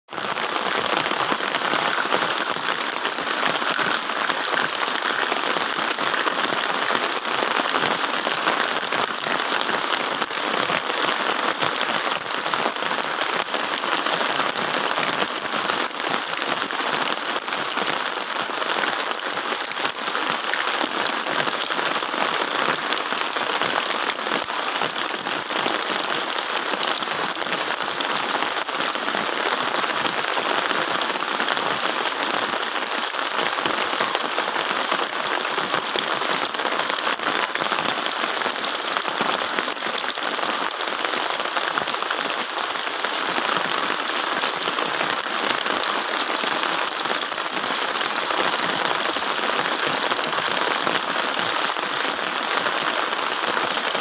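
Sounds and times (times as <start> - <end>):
rain on gravel and foliage: 0.1 - 54.0.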